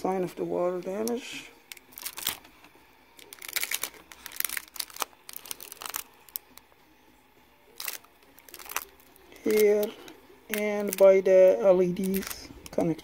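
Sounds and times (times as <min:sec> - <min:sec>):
plastic film crinkling: 0:01.0 - 0:06.8, 0:07.7 - 0:13.0.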